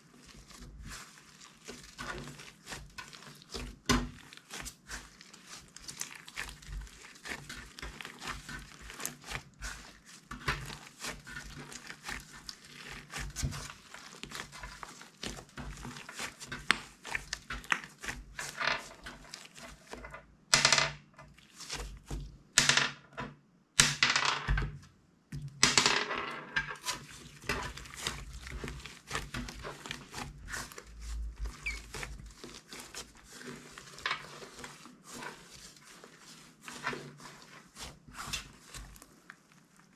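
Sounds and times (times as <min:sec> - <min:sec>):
slime squelches: 0:00.0 - 0:20.1, 0:21.2 - 0:22.5, 0:26.8 - 0:39.9
slime crackling and popping: 0:00.2 - 0:19.8, 0:26.8 - 0:39.8.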